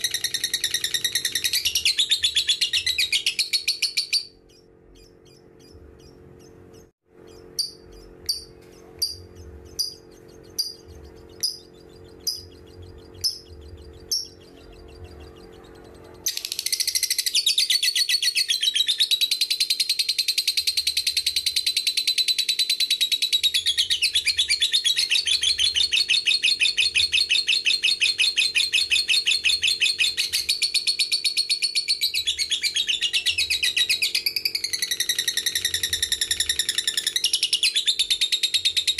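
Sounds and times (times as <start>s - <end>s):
lovebird chattering trill: 0.0s - 38.9s
lovebird sharp chirps: 0.0s - 38.9s.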